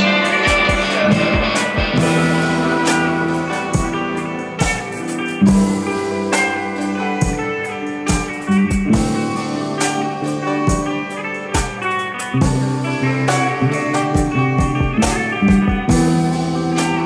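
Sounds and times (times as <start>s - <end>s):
drum kit beat: 0.0s - 17.0s
rock guitar: 0.0s - 17.0s.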